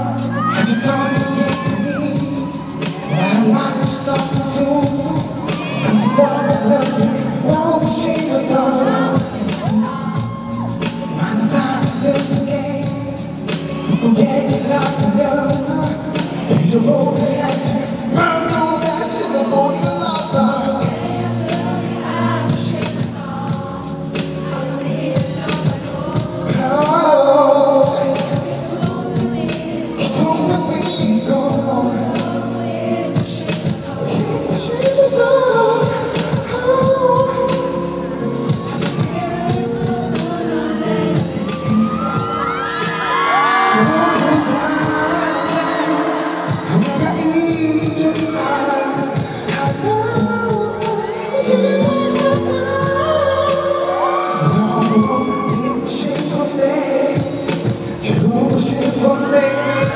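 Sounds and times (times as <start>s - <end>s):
live pop dance music: 0.0s - 59.9s.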